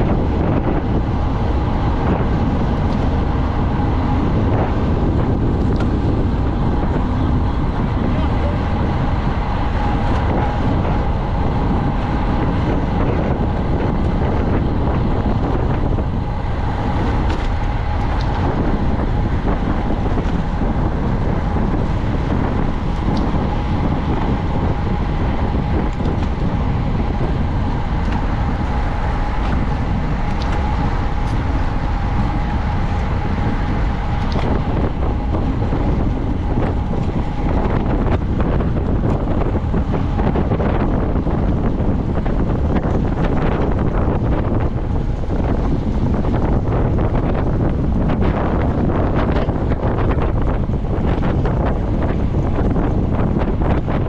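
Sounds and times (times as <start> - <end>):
constant high hum: 0.0 - 54.0
wind buffeting microphone: 0.0 - 54.0.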